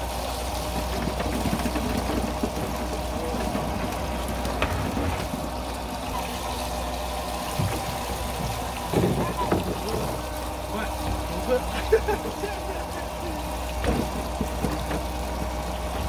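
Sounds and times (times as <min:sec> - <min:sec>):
boat engine idling: 0:00.0 - 0:16.0
water trickling and splashing: 0:00.0 - 0:16.0.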